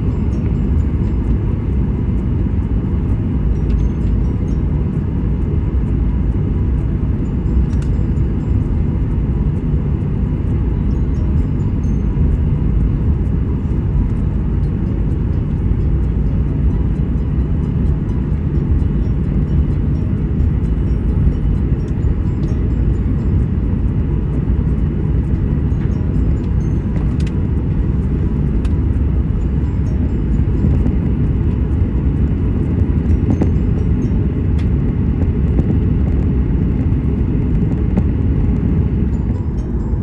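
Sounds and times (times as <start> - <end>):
faint ticks and rattles: 0.0 - 40.0
jet airliner cabin rumble: 0.0 - 40.0.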